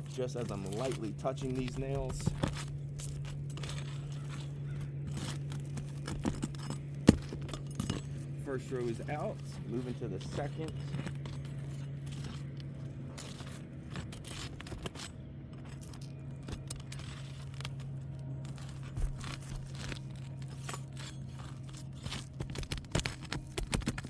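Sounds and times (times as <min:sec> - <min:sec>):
steady low hum: 0:00.0 - 0:24.0
tools scraping on shingles: 0:00.0 - 0:24.0.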